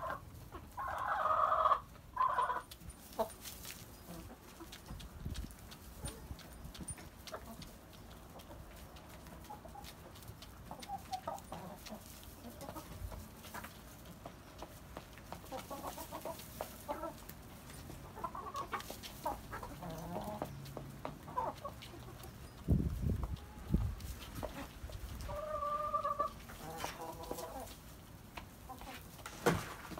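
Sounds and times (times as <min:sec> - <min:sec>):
chicken clucking: 0:00.0 - 0:29.9.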